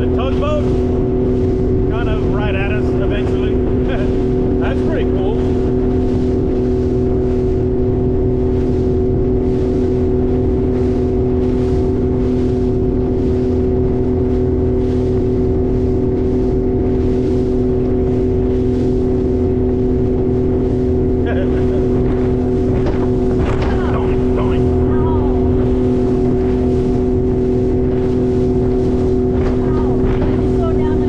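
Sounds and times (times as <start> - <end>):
motorboat engine rumbling: 0.0 - 31.0.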